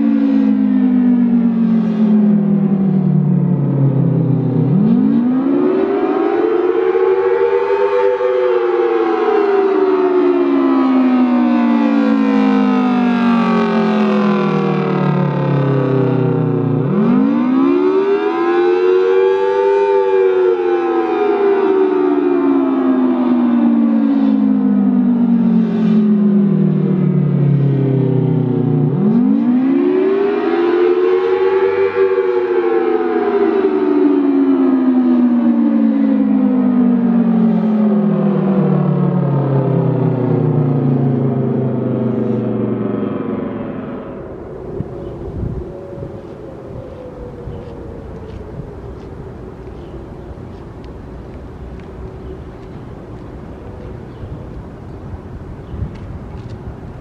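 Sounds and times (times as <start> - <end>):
siren wailing: 0.0 - 57.0.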